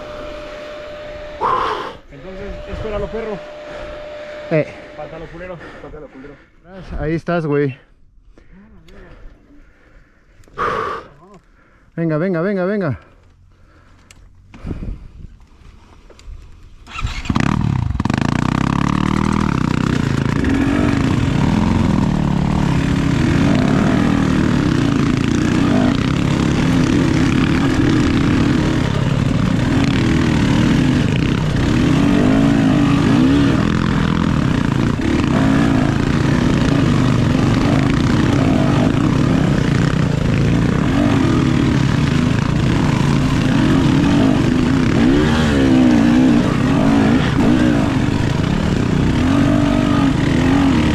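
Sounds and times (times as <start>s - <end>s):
dirt bike engine revving: 0.0s - 7.2s, 16.9s - 50.9s.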